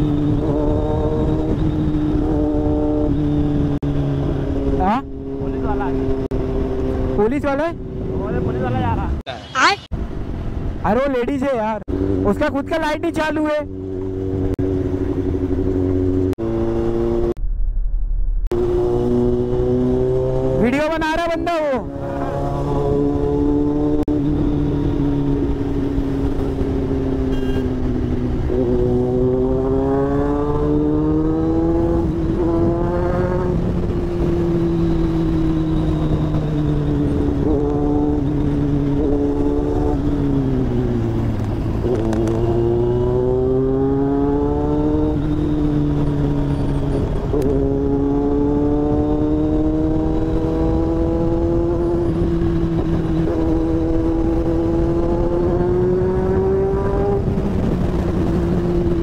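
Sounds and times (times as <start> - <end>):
motorcycle engine revving: 0.0 - 9.3, 11.8 - 59.0.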